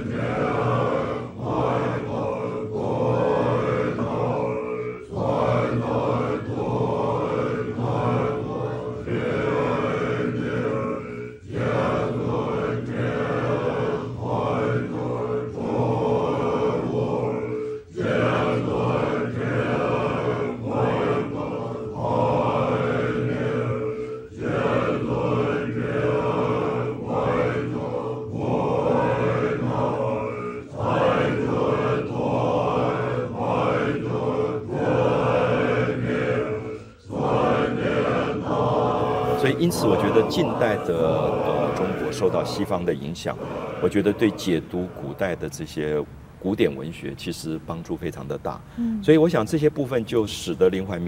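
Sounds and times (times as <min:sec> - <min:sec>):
deep group chanting: 0:00.0 - 0:45.9
steady drone: 0:00.0 - 0:46.0.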